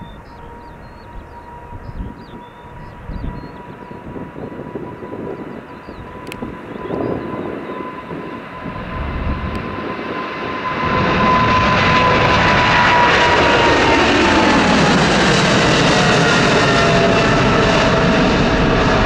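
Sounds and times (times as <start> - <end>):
high engine whine: 0.0 - 19.0
jet engines at takeoff power: 0.0 - 19.0.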